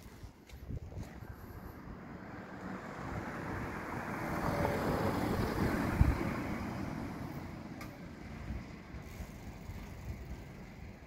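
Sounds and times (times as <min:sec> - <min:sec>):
car passing by: 0:01.1 - 0:10.5.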